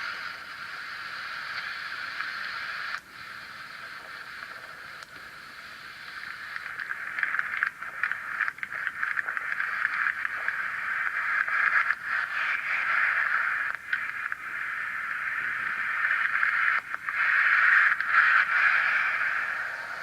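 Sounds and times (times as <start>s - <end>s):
static hiss crackling: 0.0s - 20.0s.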